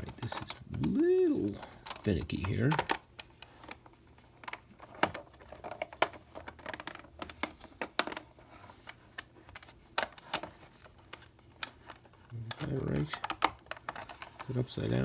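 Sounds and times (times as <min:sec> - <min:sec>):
plastic parts clicking and tapping: 0:00.0 - 0:15.0.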